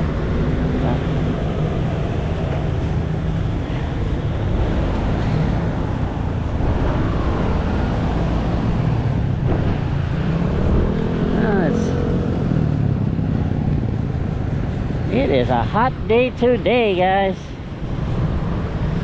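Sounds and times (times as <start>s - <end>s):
vehicle engines humming: 0.0s - 19.0s
wind buffeting microphone: 0.0s - 19.0s.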